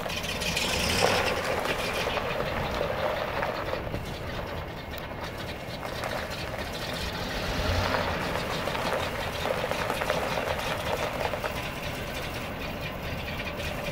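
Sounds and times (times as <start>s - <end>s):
pickup truck engine running: 0.0s - 13.9s
tyres crunching over gravel: 0.0s - 13.9s.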